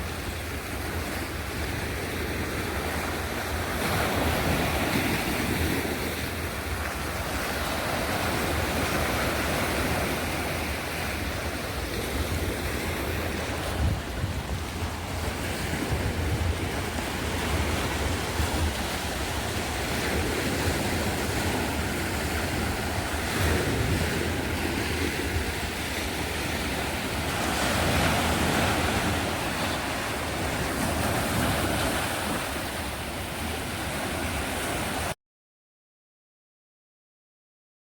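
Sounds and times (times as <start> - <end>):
wind buffeting microphone: 0.0 - 35.1
sea waves washing ashore: 0.0 - 35.2.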